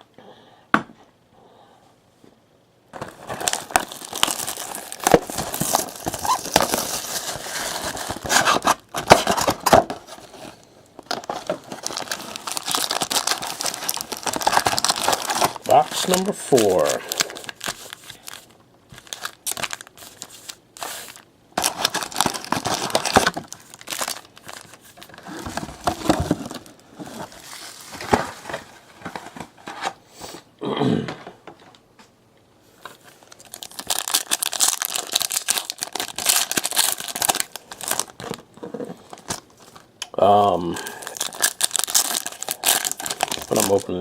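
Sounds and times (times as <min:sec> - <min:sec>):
plastic wrapping crinkling and tearing: 0:03.0 - 0:29.8, 0:32.9 - 0:44.0.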